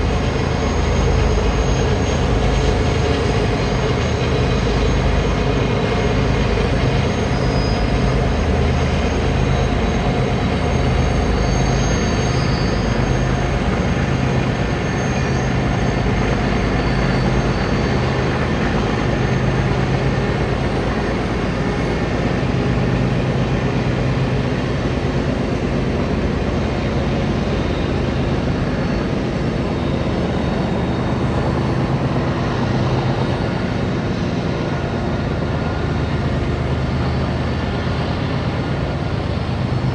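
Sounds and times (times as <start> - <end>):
train engine drone: 0.0 - 39.9
train rumble: 0.0 - 39.9.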